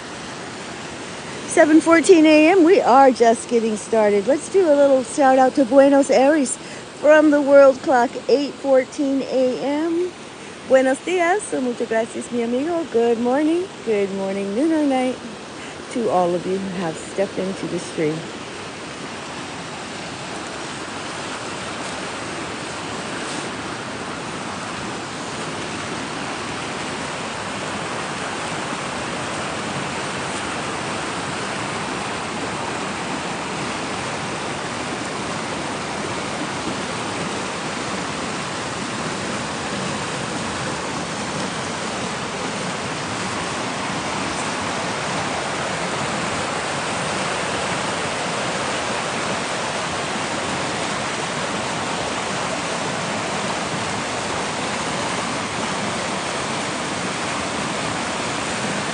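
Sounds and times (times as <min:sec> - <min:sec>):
river rushing: 0:00.0 - 0:58.9.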